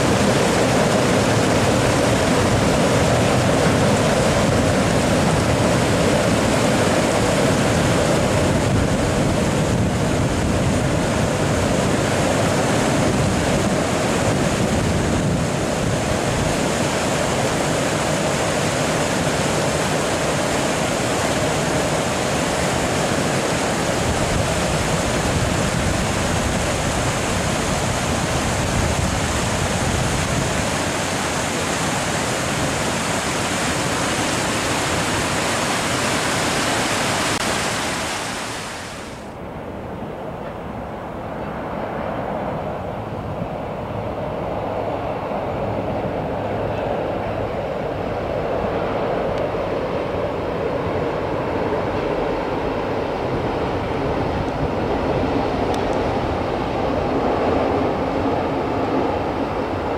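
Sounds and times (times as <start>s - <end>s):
distant freight train on bridge: 0.0s - 59.9s.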